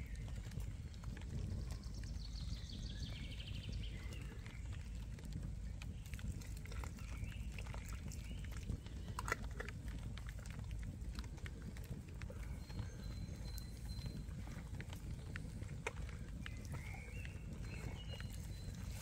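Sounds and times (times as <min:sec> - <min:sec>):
small birds trilling: 0:00.0 - 0:19.0.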